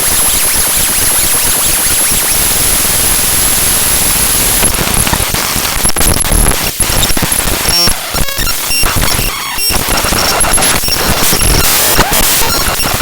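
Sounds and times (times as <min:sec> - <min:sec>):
choppy crackling noise: 0:00.0 - 0:13.0
static hiss: 0:01.8 - 0:13.0.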